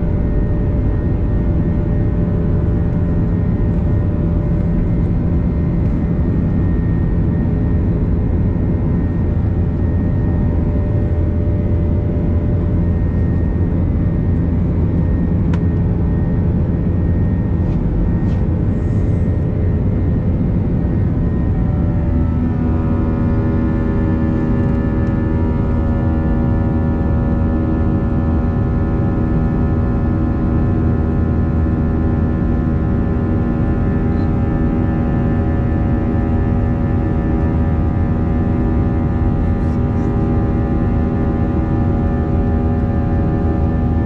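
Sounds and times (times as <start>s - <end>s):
jet engines from inside cabin: 0.0s - 44.0s.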